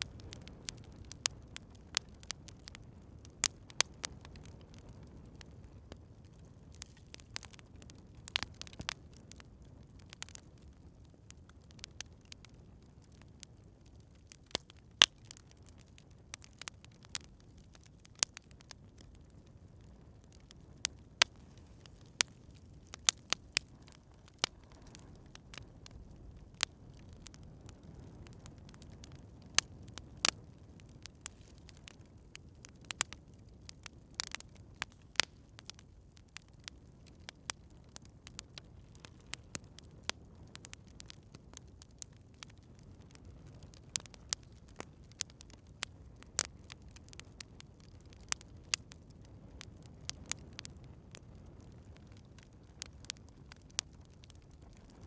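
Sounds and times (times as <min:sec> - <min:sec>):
campfire crackling and popping: 0:00.0 - 0:55.0
low rumble of burning fire: 0:00.0 - 0:55.0.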